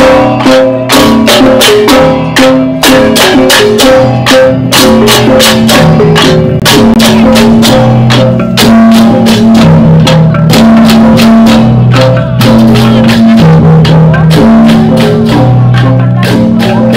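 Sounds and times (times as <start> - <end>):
fast metallic gamelan strikes: 0.0 - 16.9.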